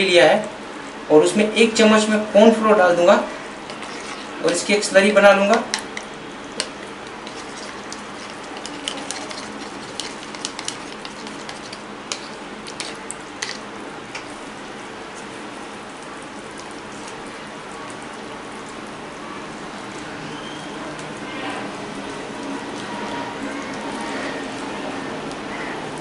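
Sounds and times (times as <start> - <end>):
sauce simmering and bubbling: 3.3 - 26.0.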